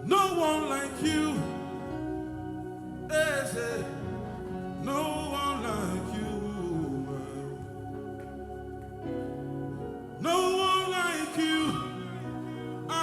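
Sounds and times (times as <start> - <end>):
held chords: 0.0 - 13.0.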